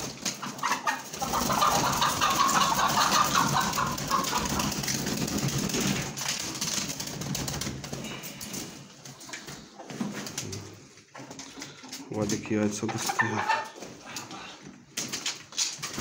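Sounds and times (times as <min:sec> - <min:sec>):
hens clucking: 0:00.0 - 0:06.8, 0:07.8 - 0:15.1.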